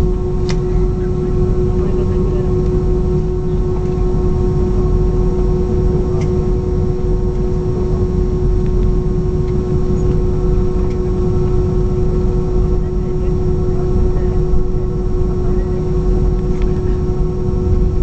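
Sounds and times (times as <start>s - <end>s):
aircraft cabin rumble and whine: 0.0s - 18.0s.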